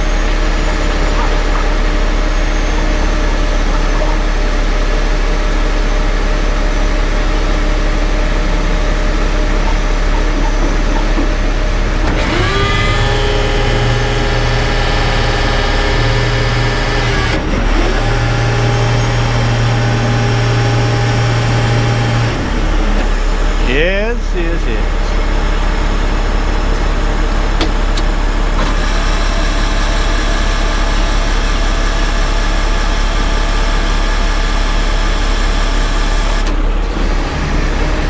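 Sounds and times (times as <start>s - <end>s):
diesel engine revving: 0.0s - 38.0s.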